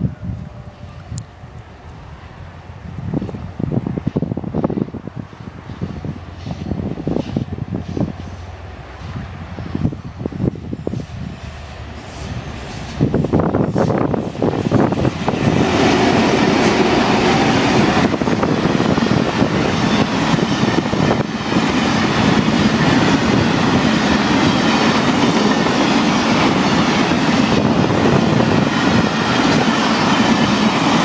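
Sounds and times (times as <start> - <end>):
diesel locomotive passing: 0.0 - 31.0
train wheels clattering on rails: 3.2 - 31.0.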